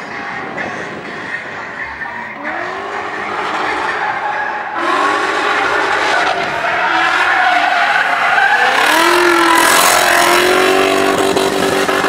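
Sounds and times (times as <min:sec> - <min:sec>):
tyres squealing and skidding: 0:00.0 - 0:12.0
car engine revving: 0:00.1 - 0:12.0.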